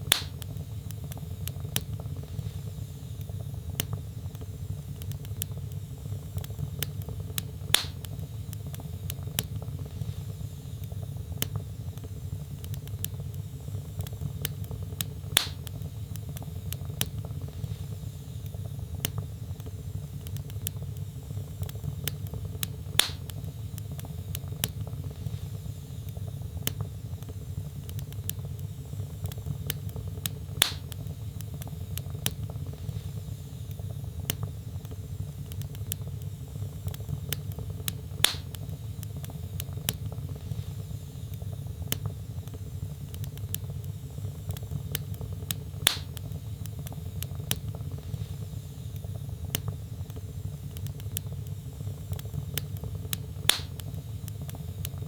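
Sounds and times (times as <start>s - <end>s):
burning logs crackling: 0.0s - 55.0s
fire popping: 0.0s - 55.0s
low rumble of flames: 0.0s - 55.0s.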